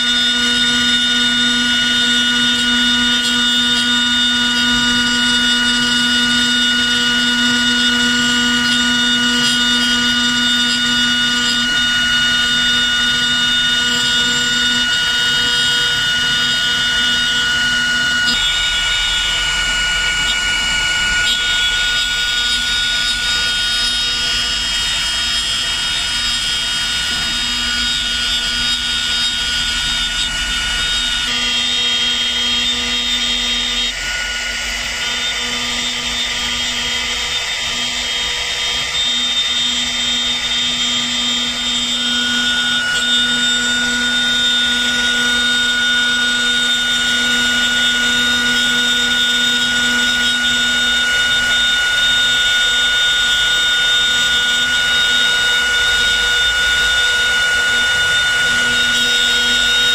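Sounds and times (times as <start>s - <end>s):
router spindle whining: 0.0s - 59.9s.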